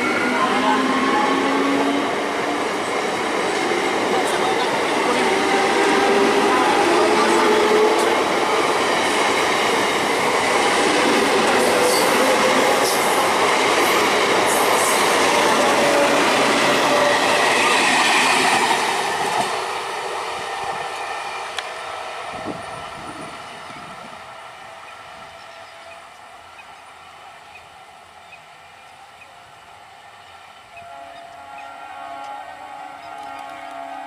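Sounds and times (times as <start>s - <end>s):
train wheels rushing on rails: 0.0s - 34.0s.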